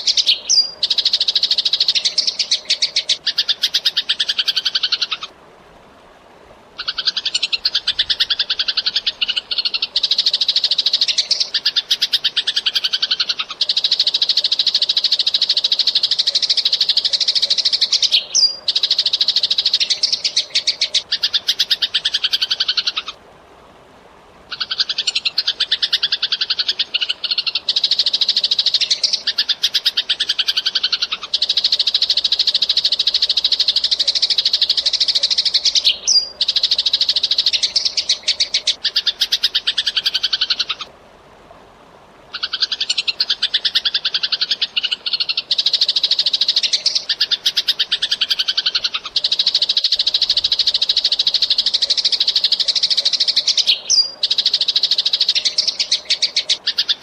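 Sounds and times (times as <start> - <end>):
sparrows chirping rapidly: 0.0 - 5.2, 6.8 - 23.1, 26.7 - 40.8, 42.4 - 57.0.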